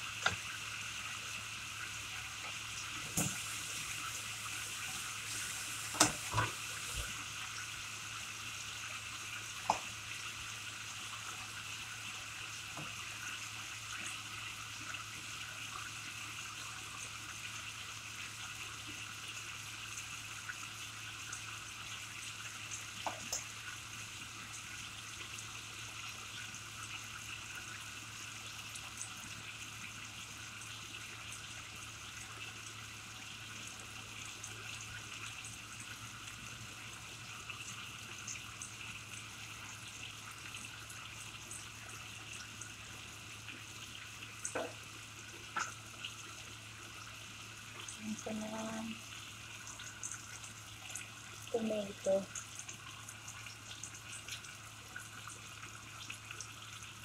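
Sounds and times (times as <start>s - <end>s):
food sizzling in a wok: 0.0s - 57.0s.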